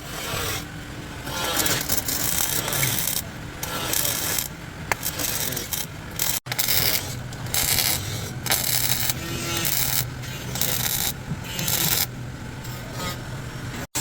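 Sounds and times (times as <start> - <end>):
abrasive tool rasping on metal: 0.0 - 13.3.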